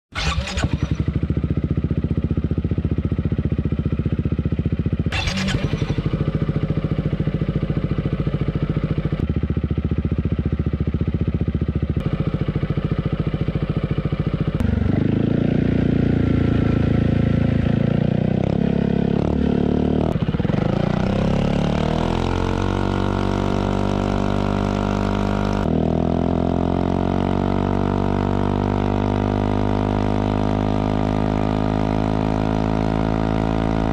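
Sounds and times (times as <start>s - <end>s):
scooter engine idling and revving: 0.1s - 33.9s.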